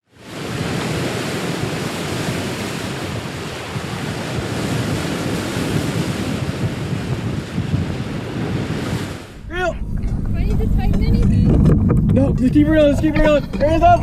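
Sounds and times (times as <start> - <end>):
ocean waves: 0.0 - 14.0
wind buffeting microphone: 0.2 - 14.0.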